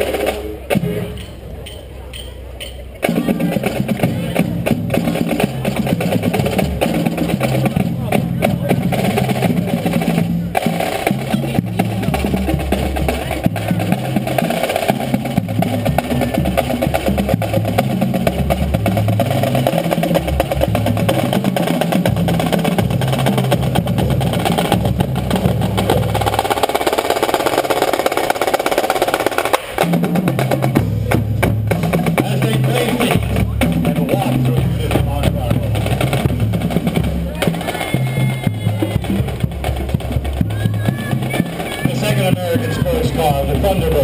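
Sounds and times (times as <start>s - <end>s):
marching band playing: 0.0s - 44.0s
snare and bass drums: 0.0s - 44.0s.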